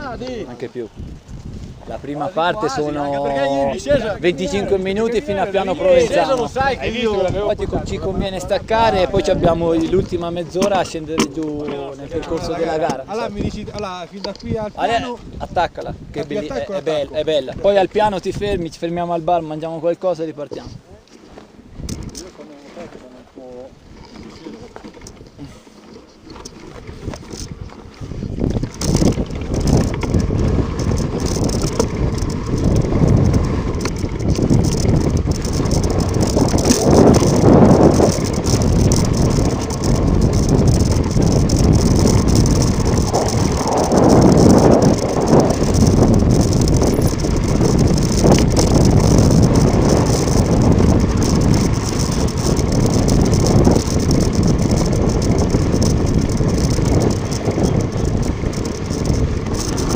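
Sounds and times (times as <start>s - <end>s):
bike tyre noise: 0.0s - 19.8s, 20.5s - 59.9s
wind rushing over microphone: 0.0s - 19.8s, 21.6s - 22.4s, 26.3s - 59.9s
bike rattling: 0.0s - 59.9s.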